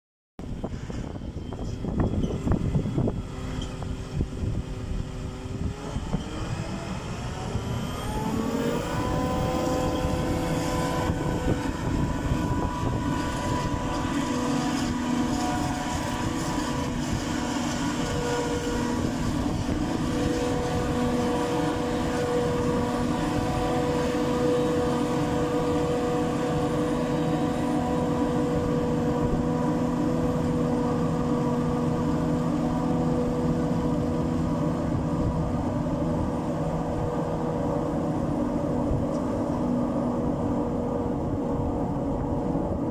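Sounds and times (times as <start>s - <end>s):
forage harvester whine: 0.4s - 42.9s
tractor running: 0.4s - 42.9s.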